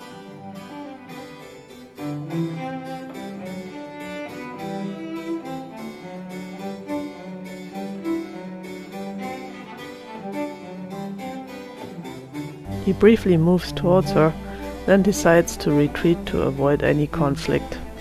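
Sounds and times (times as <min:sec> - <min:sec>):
bowed strings: 0:00.0 - 0:18.0
harpsichord: 0:00.0 - 0:18.0.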